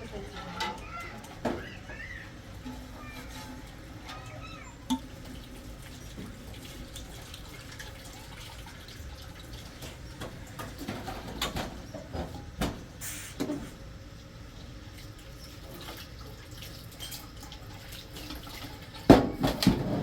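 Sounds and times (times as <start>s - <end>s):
water running from a tap: 0.0s - 12.2s, 14.0s - 19.7s.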